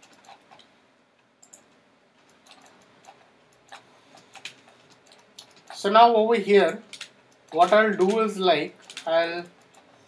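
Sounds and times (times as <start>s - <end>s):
computer mouse clicks: 0.0s - 0.7s, 1.4s - 5.9s, 6.6s - 9.9s.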